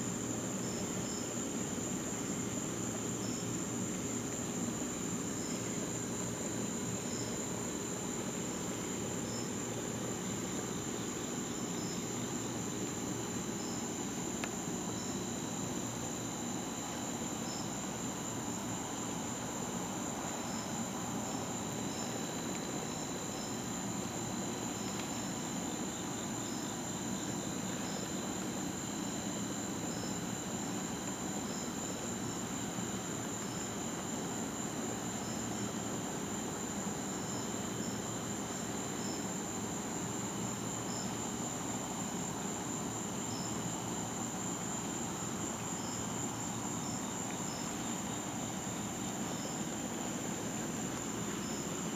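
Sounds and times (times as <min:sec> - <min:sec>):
insects trilling: 0:00.0 - 0:51.9
short cricket chirps: 0:00.0 - 0:51.9.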